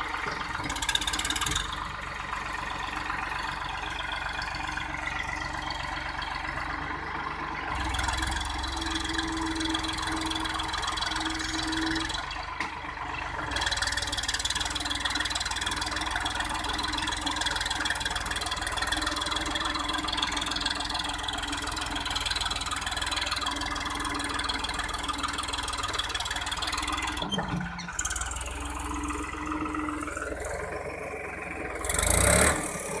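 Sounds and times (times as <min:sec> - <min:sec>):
tractor diesel engine: 0:00.0 - 0:33.0.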